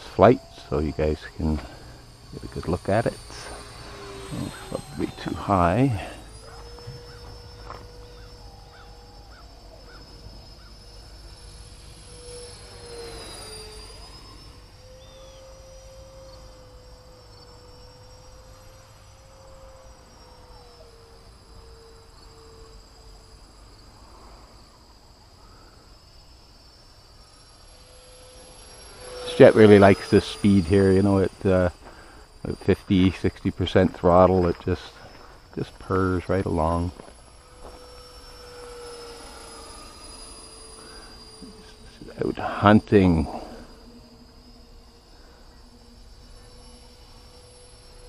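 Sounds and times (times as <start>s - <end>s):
electric ducted fans whining: 0.0s - 48.0s.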